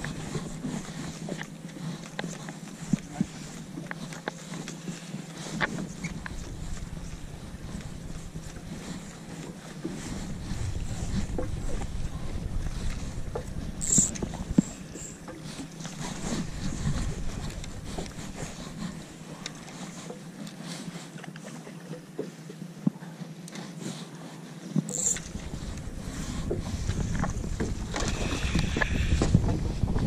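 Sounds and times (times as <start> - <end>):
wind rumbling on microphone: 0.0 - 4.6, 5.4 - 19.8, 24.8 - 30.0
low boat motor hum: 0.0 - 30.0.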